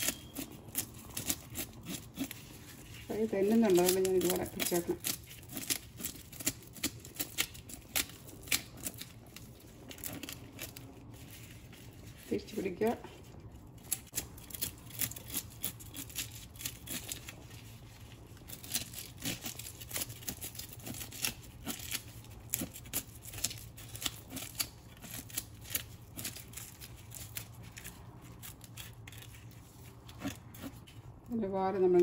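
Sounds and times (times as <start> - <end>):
knife scraping fish scales: 0.0 - 12.2, 13.8 - 31.2.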